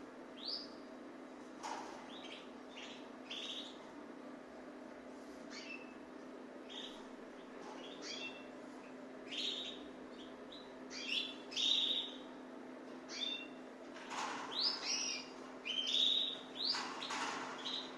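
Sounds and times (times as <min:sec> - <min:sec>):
steady low hum: 0:00.0 - 0:17.9
caged birds chirping: 0:00.1 - 0:17.9.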